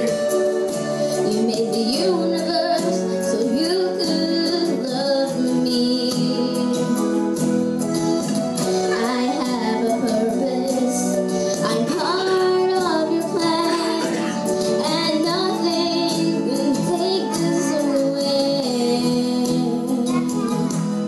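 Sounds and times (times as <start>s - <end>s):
instrumental accompaniment: 0.0s - 21.0s
woman and children singing: 1.2s - 6.9s, 8.8s - 20.4s.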